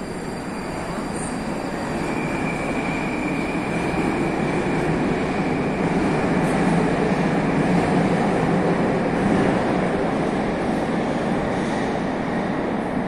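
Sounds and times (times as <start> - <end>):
metro train rumbling in tunnel: 0.0 - 13.0.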